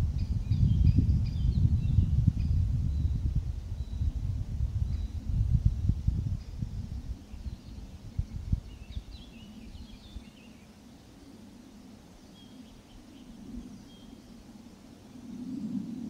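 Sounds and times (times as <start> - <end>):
songbirds twittering: 0.0 - 16.0
wind rumbling on microphone: 0.0 - 16.0.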